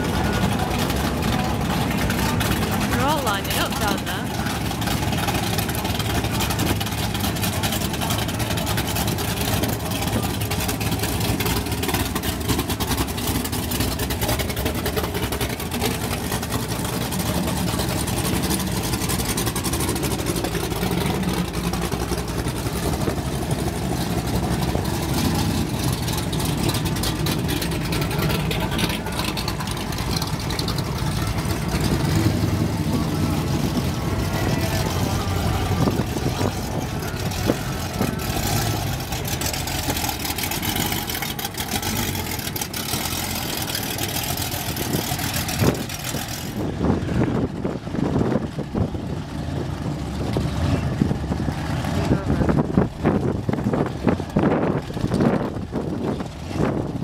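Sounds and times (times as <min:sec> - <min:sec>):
car engines idling: 0:00.0 - 0:57.0.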